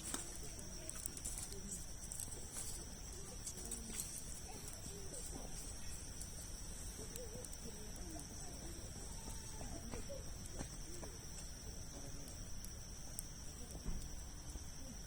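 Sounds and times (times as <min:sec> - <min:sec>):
campfire crackling and popping: 0:00.0 - 0:15.0
faint distant voices: 0:00.0 - 0:15.0.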